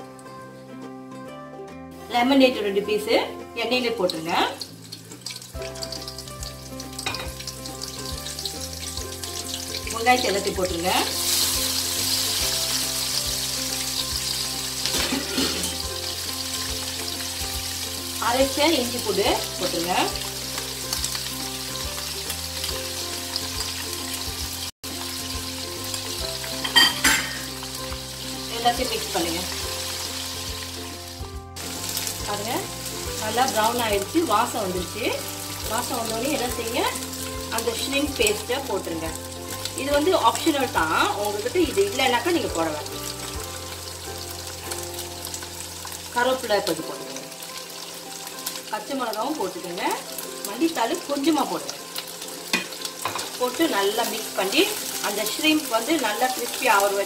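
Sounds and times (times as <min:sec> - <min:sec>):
faint background music: 0:00.0 - 0:57.0
food sizzling in hot oil: 0:01.9 - 0:57.0.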